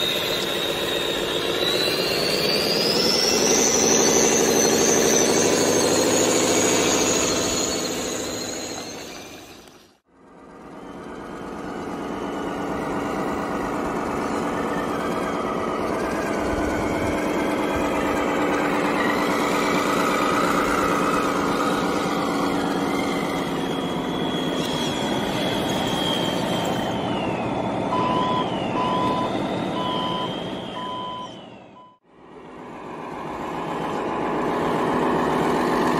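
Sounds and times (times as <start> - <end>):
reversing alarm beeping: 0.0 - 9.8, 12.2 - 32.0
heavy truck engine running: 0.0 - 35.9.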